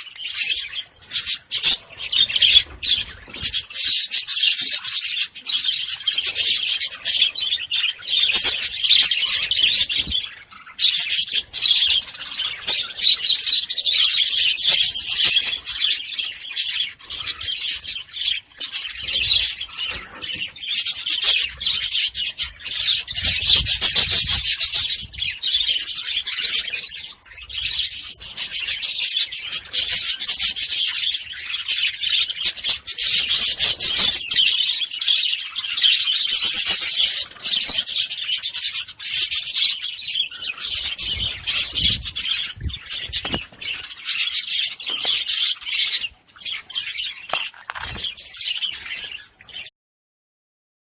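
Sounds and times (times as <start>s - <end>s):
lovebirds chattering: 0.0s - 49.7s.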